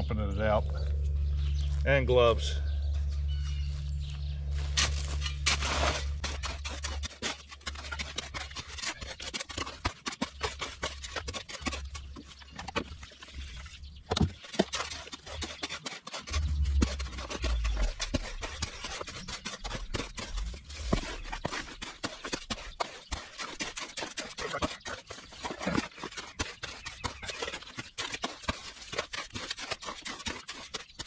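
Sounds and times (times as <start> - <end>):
shovel scraping concrete mix: 1.9 - 31.0.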